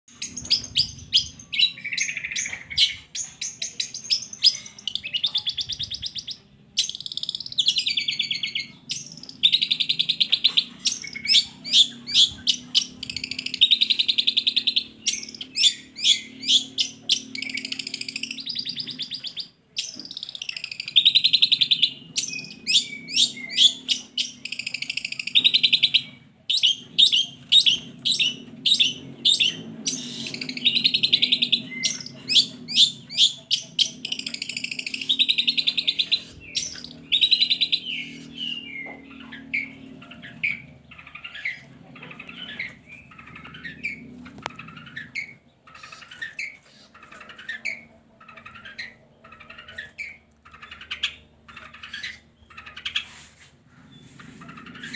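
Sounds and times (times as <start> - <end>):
shrike singing: 0.1 - 53.0.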